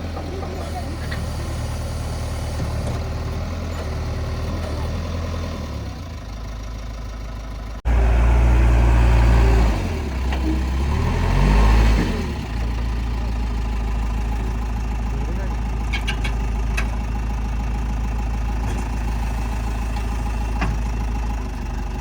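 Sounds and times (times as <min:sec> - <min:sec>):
diesel engine revving: 0:00.0 - 0:22.0.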